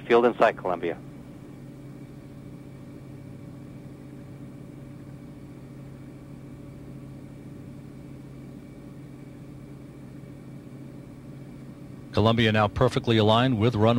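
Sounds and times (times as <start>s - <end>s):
low hum with constant tones: 0.0s - 13.9s.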